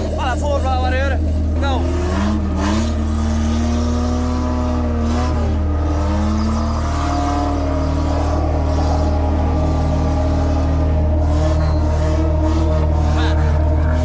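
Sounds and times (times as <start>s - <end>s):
engine revving hard under load: 0.0s - 14.0s.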